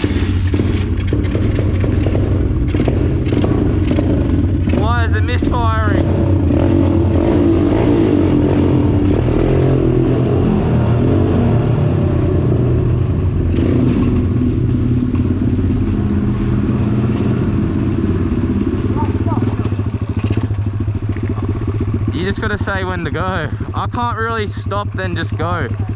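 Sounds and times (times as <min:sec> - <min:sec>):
dirt bike engine misfiring: 0:00.0 - 0:25.9.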